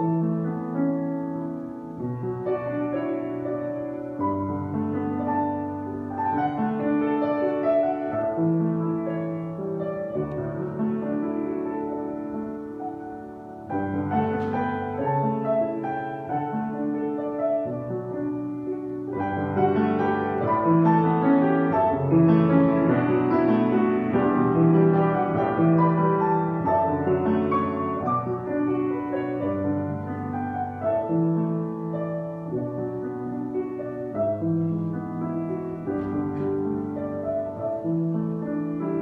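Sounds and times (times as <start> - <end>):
slow solo piano: 0.0 - 39.0.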